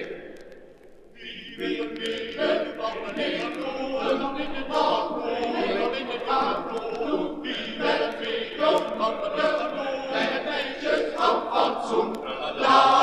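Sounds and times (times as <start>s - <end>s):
male voice choir singing: 1.2s - 13.0s.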